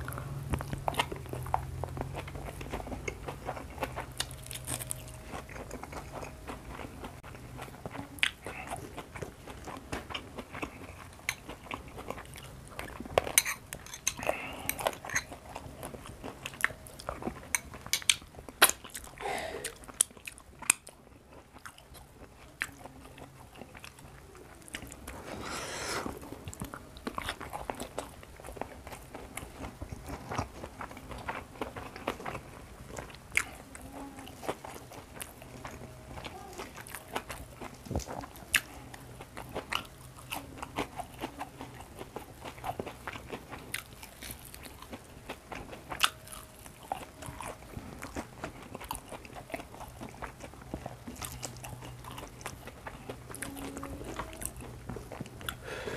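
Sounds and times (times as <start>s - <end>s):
man chewing food: 0.0s - 55.9s.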